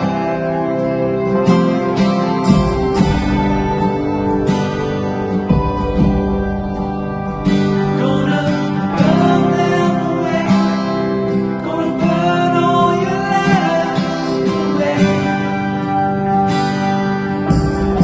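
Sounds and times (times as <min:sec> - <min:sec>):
acoustic guitar: 0:00.0 - 0:18.0
person singing: 0:00.0 - 0:18.0.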